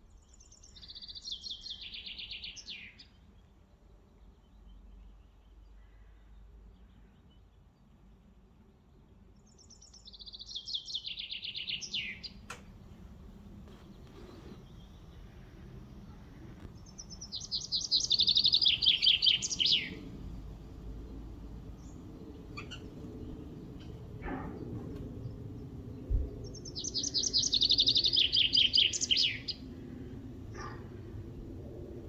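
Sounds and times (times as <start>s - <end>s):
songbird singing: 0.0s - 8.0s, 8.9s - 31.7s.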